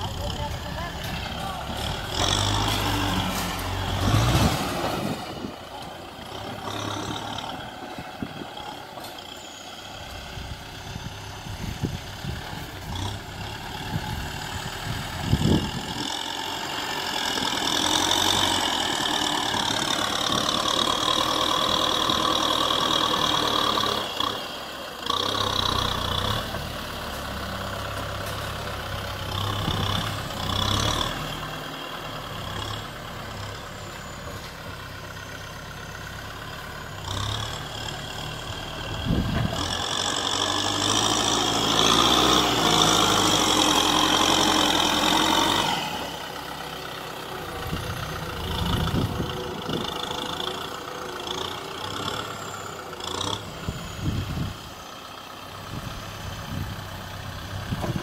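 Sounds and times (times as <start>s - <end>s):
tractor diesel engine working: 0.0s - 58.0s.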